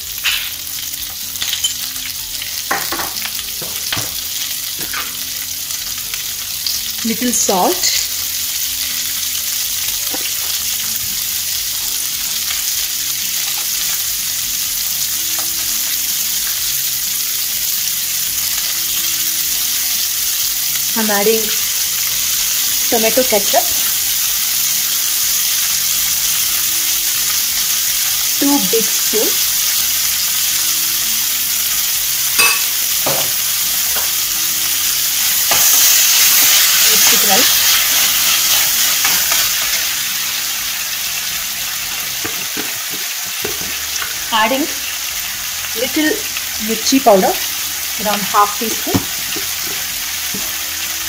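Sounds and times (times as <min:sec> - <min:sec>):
vegetables sizzling in wok: 0:00.0 - 0:51.0.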